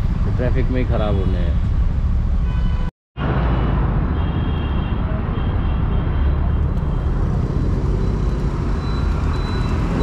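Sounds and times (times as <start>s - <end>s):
dense road traffic rumble: 0.0s - 10.0s.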